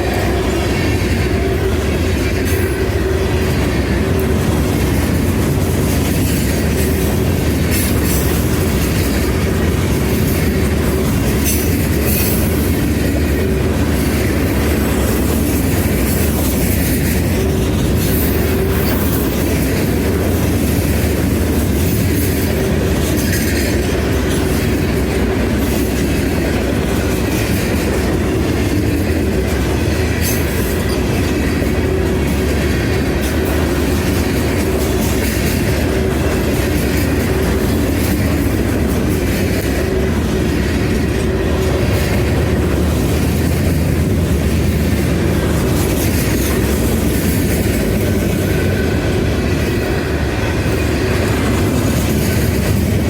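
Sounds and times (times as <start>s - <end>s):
railroad cars rumbling past: 0.0s - 53.0s
wheels clicking over rail joints: 0.0s - 53.0s.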